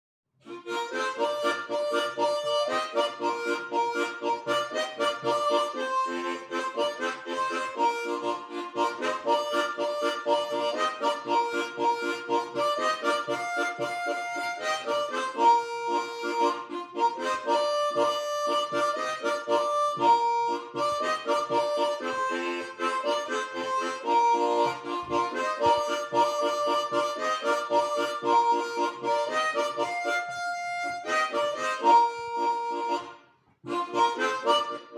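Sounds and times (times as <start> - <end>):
harmonica playing lively melody: 0.4 - 34.9.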